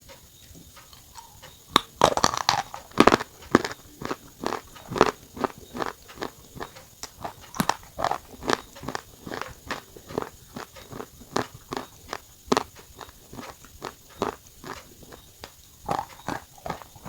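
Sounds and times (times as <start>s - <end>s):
chewing: 0.1s - 17.0s.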